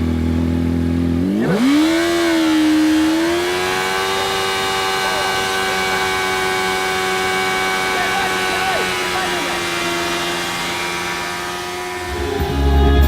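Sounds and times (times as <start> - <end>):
motorcycle engine revving: 0.0 - 13.0
rear tyre spinning: 0.0 - 13.0.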